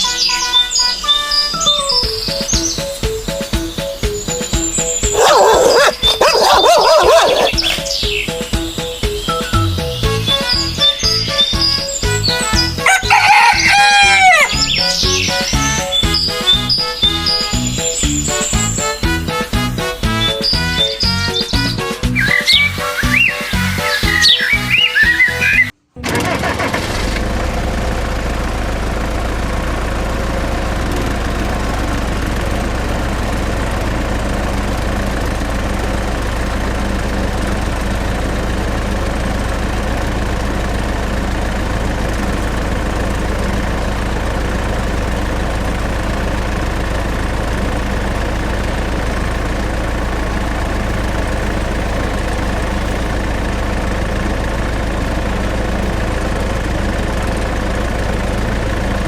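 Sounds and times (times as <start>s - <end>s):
small engine idling: 1.6s - 59.0s.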